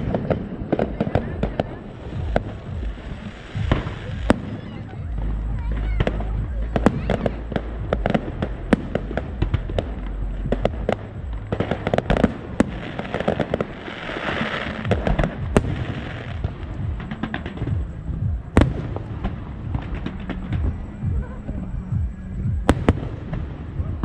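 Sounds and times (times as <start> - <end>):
hissing crackle: 0.0 - 24.0
low rumble: 0.0 - 24.0.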